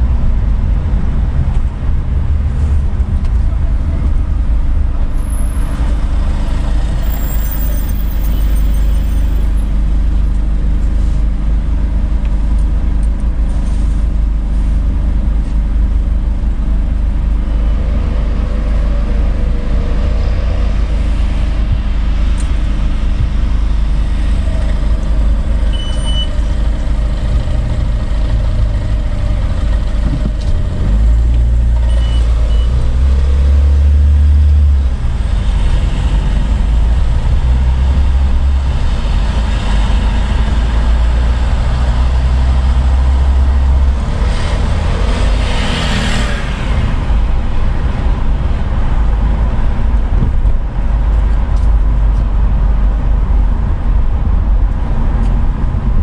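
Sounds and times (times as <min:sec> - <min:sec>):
light street traffic: 0:00.0 - 0:56.0.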